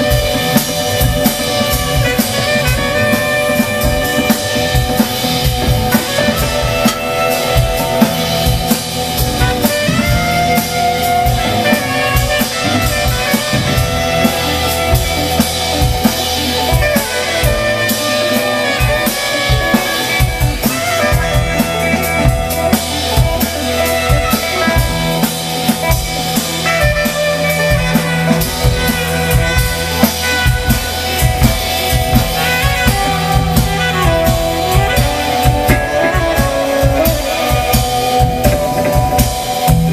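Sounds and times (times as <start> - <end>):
drum kit playing: 0.0 - 39.9
electric guitar: 0.0 - 39.9
keyboards: 0.0 - 39.9
saxophone: 0.0 - 39.9.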